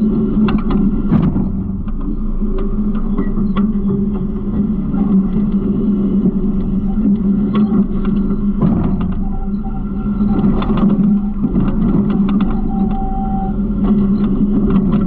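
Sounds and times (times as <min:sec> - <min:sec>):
garbage truck diesel engine droning: 0:00.0 - 0:15.0.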